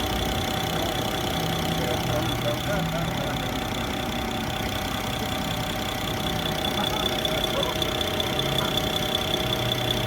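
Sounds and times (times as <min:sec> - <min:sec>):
car engine idling: 0:00.0 - 0:10.0
high-pitched whine: 0:00.0 - 0:10.0.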